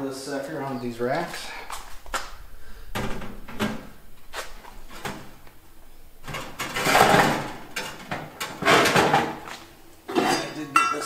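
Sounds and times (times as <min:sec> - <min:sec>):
wire grill rack rattling and scraping: 0:00.9 - 0:10.6.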